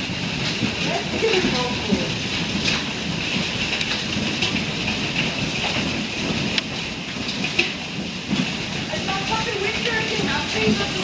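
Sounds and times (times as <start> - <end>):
hailstones clattering: 0.0 - 11.0.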